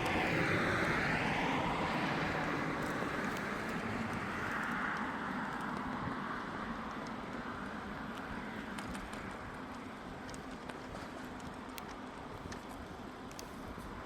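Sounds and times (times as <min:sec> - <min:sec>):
vehicle tyres on asphalt: 0:00.0 - 0:14.0.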